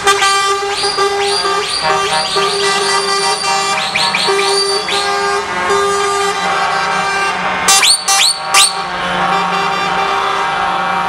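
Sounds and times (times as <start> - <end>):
truck air horns honking: 0.0 - 11.0
truck engines droning: 0.0 - 11.0.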